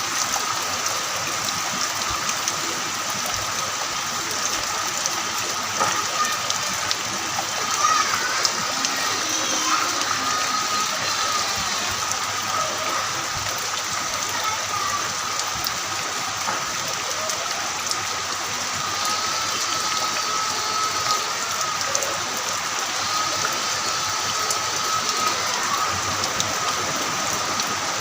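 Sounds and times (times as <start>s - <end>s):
heavy rain: 0.0s - 28.0s
sharp drips: 0.0s - 28.0s.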